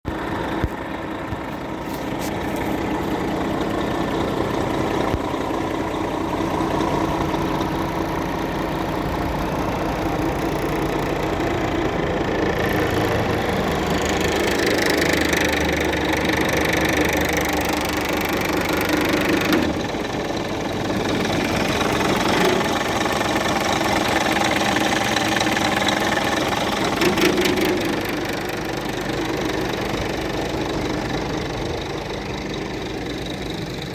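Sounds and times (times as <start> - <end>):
truck diesel engine idling: 0.1 - 33.9.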